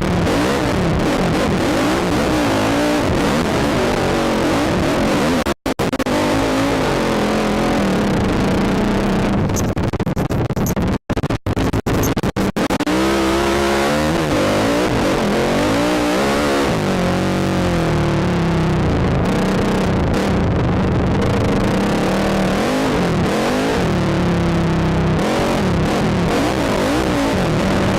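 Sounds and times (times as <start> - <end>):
atv engine revving: 0.0 - 9.7, 12.6 - 20.5, 21.1 - 27.9
constant rushing noise: 0.0 - 27.9.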